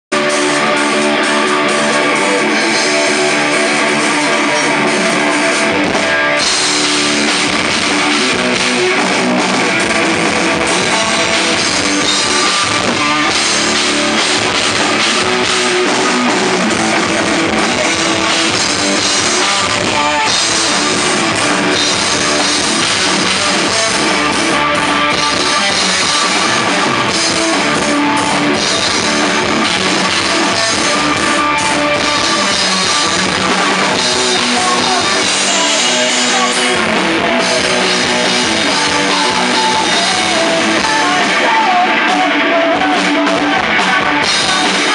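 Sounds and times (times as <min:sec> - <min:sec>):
bass guitar: 0:00.0 - 0:44.9
electric guitars: 0:00.0 - 0:44.9
drum kit with cymbals: 0:00.1 - 0:44.9.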